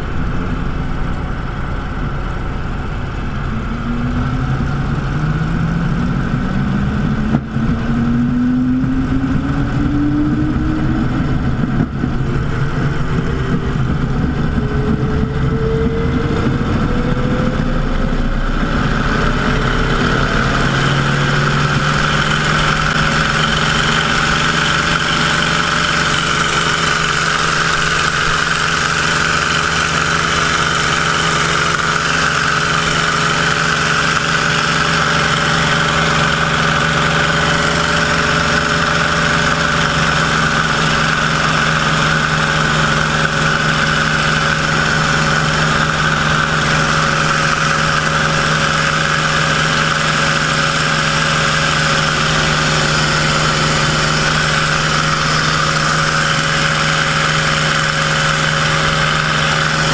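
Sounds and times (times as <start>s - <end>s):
aircraft engine drone: 0.0s - 59.9s
rushing air: 0.0s - 59.9s.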